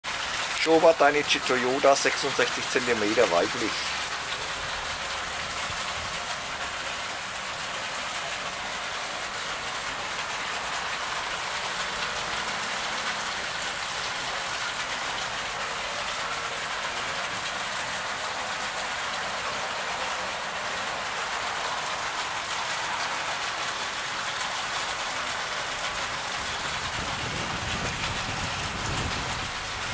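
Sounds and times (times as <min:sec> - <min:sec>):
hiss of falling water: 0:00.1 - 0:29.9.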